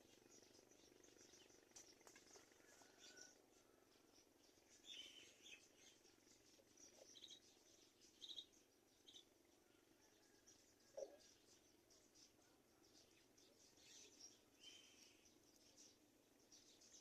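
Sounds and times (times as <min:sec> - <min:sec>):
soft background hiss: 0:00.0 - 0:17.0.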